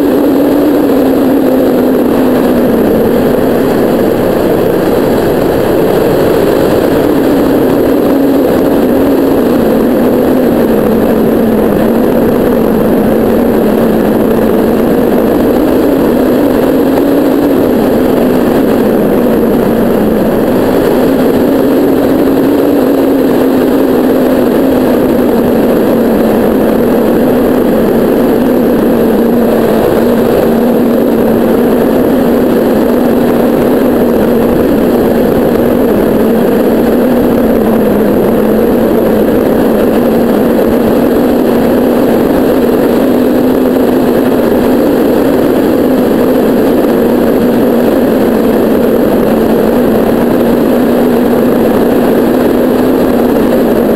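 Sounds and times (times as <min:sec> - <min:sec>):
low wavering hum: 0:00.0 - 0:53.9
wind noise on microphone: 0:00.0 - 0:53.9.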